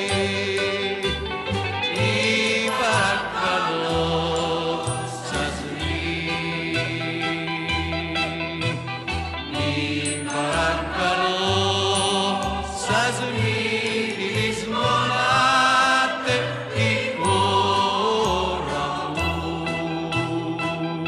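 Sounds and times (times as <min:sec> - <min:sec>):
recorded song playing: 0:00.0 - 0:21.0.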